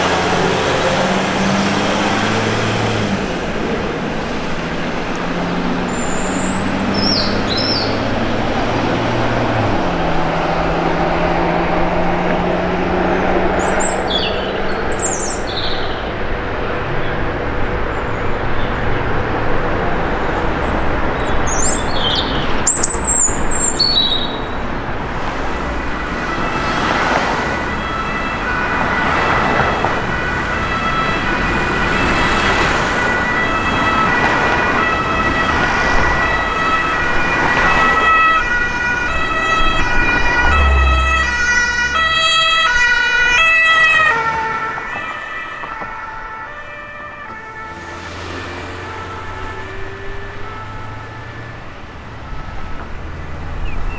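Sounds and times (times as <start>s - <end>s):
two-tone siren: 0.0s - 16.2s, 21.4s - 53.2s
engine and traffic noise: 0.0s - 53.9s.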